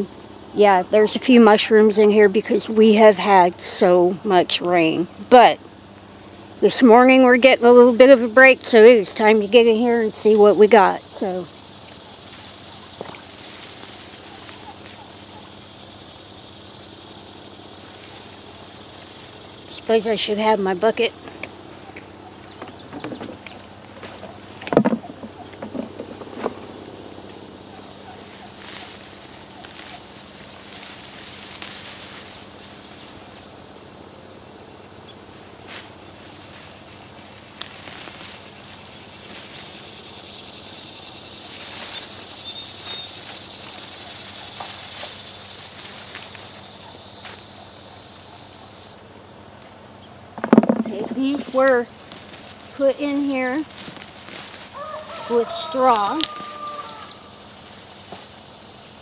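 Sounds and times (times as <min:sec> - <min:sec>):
insects chirring: 0:00.0 - 0:59.0
rustling of vines and straw: 0:05.8 - 0:59.0.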